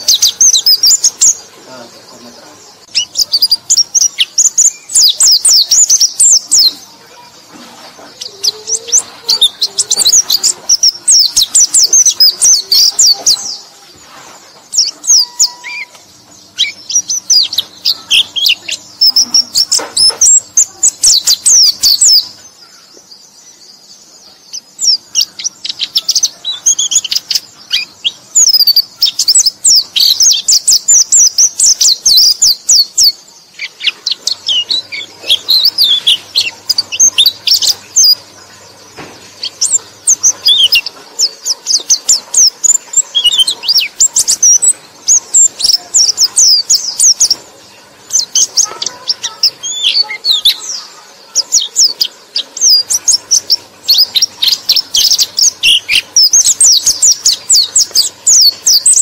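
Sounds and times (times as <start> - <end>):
bird twittering song: 0.0 - 59.0.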